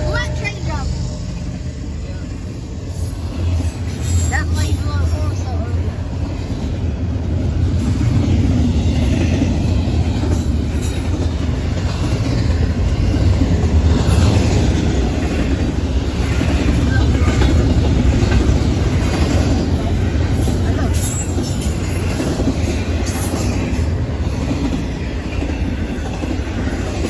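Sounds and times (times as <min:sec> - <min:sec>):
freight train rumbling past: 0:00.0 - 0:27.0
train wheels clacking: 0:00.0 - 0:27.0.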